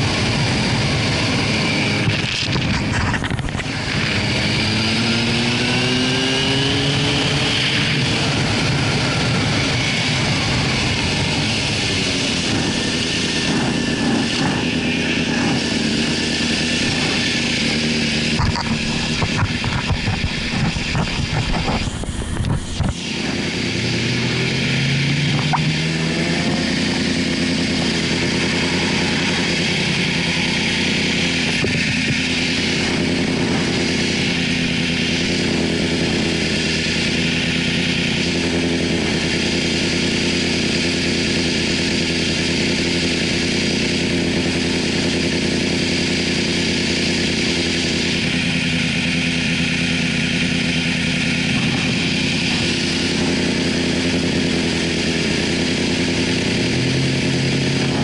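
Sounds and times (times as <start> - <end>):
motorcycle engine idling: 7.7 - 24.0, 26.3 - 58.0.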